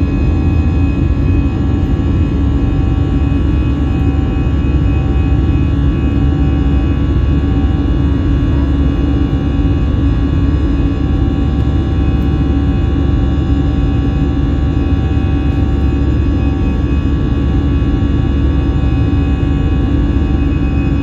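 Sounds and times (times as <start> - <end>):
droning hum: 0.0 - 21.0
jet engine rumble: 0.0 - 21.0.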